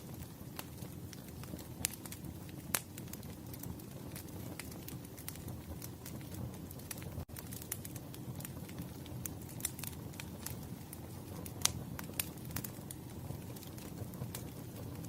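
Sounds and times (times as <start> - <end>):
rumble of burning logs: 0.0 - 15.0
wood fire crackling: 0.0 - 15.0.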